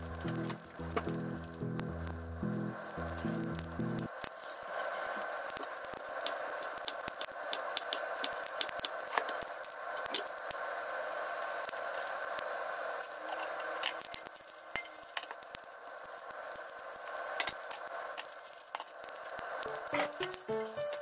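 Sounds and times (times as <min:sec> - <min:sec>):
peppers sizzling in oil: 0:00.0 - 0:21.0.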